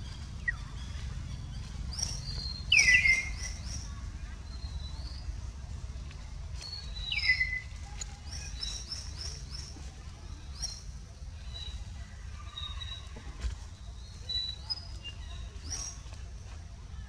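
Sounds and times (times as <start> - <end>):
birds chirping: 0.0 - 17.0
low steady rumble: 0.0 - 17.0.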